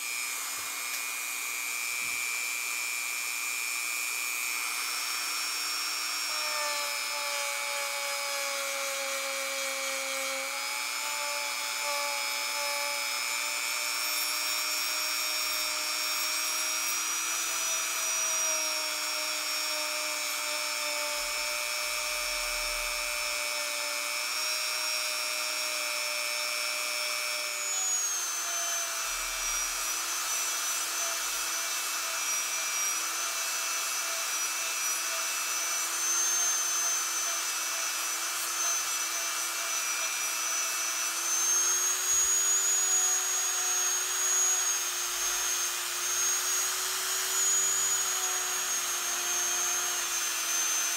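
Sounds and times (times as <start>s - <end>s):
rotary tool grinding steel: 0.0s - 50.9s.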